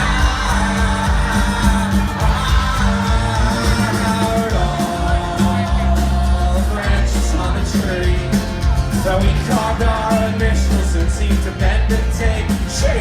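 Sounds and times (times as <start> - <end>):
live rock band playing: 0.0 - 13.0
people singing: 0.0 - 13.0.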